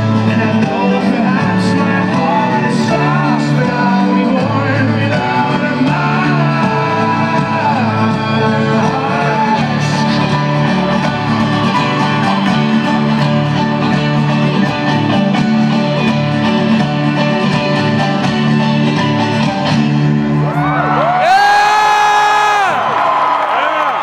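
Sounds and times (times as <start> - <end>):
folk-rock band playing live: 0.0 - 20.9.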